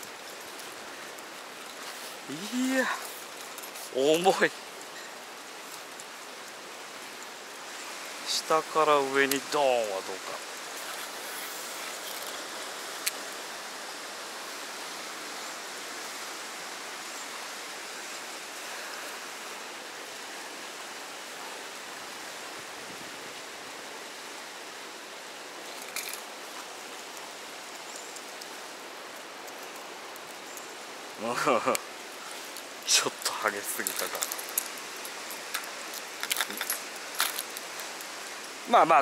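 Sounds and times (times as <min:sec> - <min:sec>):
river water rushing over rocks: 0:00.0 - 0:39.0.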